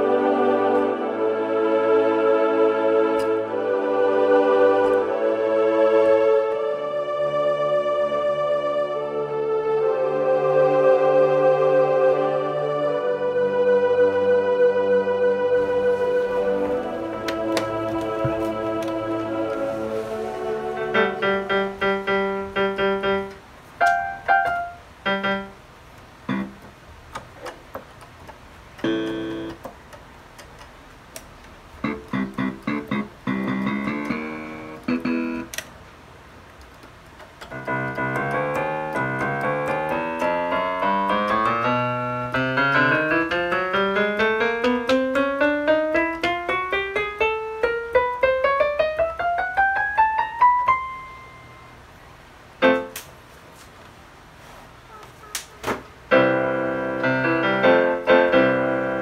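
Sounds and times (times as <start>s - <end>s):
keyboard piano tone: 0.0s - 30.0s, 31.7s - 35.7s, 37.4s - 52.0s, 52.6s - 53.0s, 56.1s - 59.0s.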